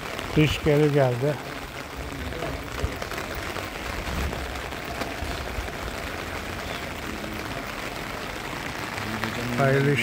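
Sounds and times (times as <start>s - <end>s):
rain on wet pavement: 0.0s - 10.0s.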